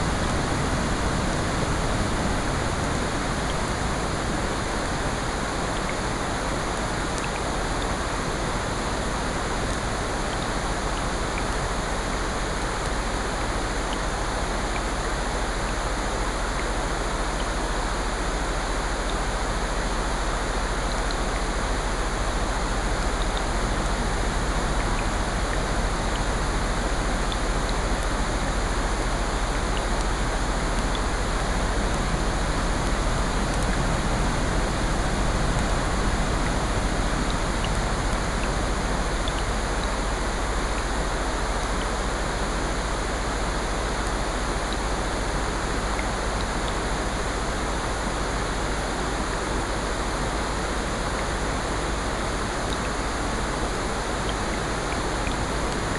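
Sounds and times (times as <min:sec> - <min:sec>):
falling rain: 0:00.0 - 0:55.9.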